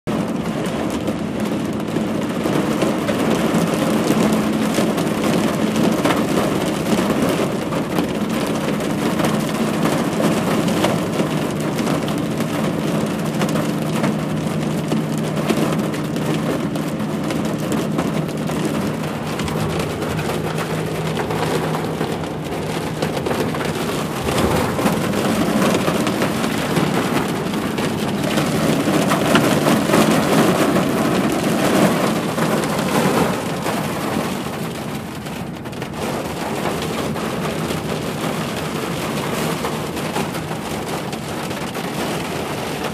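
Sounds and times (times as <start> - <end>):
heavy rain on a car: 0.0 - 42.9
car hum: 0.1 - 42.9.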